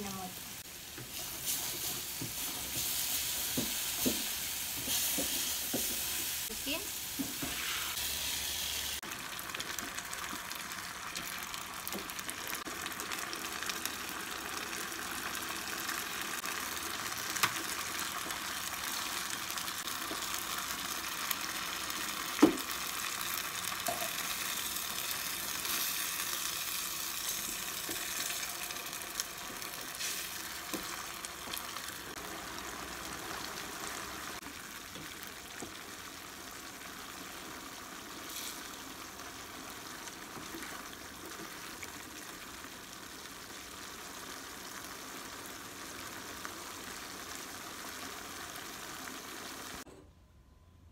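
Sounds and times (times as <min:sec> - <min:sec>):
fish sizzling in a frying pan: 0:00.0 - 0:49.9.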